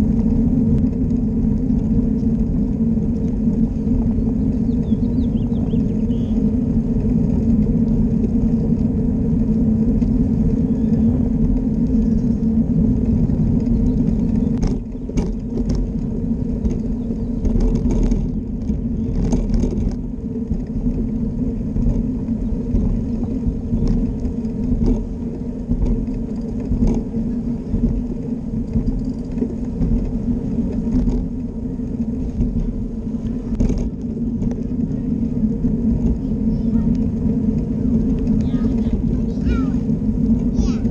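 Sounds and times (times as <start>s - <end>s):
tyre rumble: 0.0s - 40.9s
wind: 0.0s - 40.9s.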